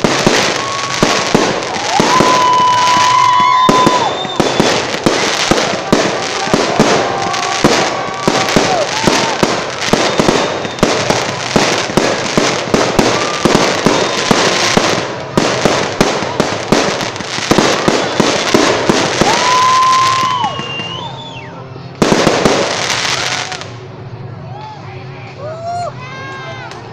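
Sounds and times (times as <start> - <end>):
fireworks whistling: 0.0 - 23.8
fireworks bangs and crackling: 0.0 - 24.0.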